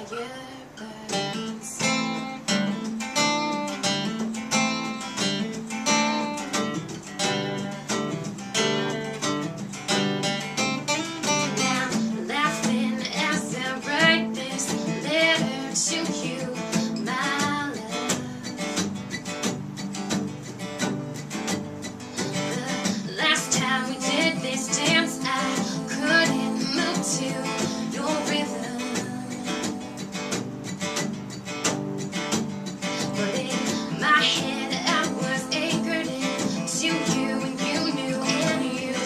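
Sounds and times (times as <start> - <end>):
acoustic guitars strumming: 0.0 - 39.0.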